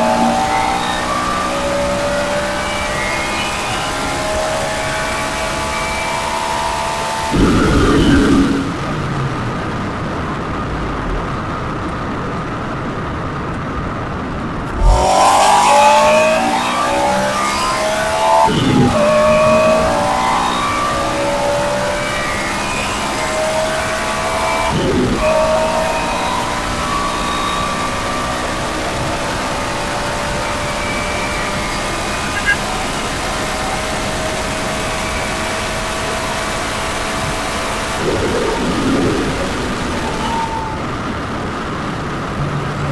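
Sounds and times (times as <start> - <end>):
gear change: 0.0 - 42.3
car engine revving: 0.0 - 42.9
wind and road noise: 0.0 - 42.9.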